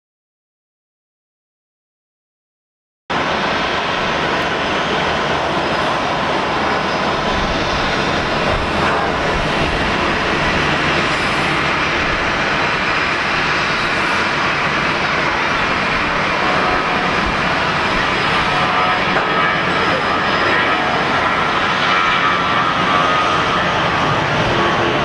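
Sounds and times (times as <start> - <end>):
jet engines running: 3.1 - 25.0.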